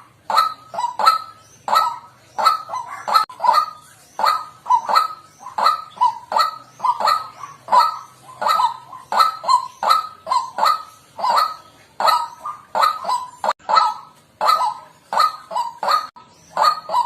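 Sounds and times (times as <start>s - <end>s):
waterhen calling harsh notes: 0.0s - 17.0s.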